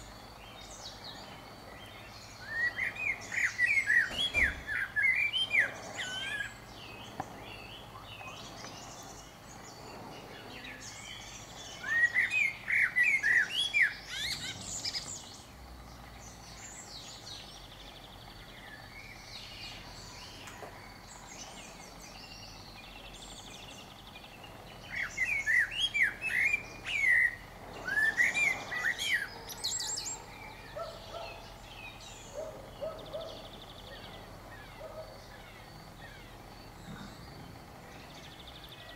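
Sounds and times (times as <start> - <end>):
blackbird singing: 0.0 - 38.9.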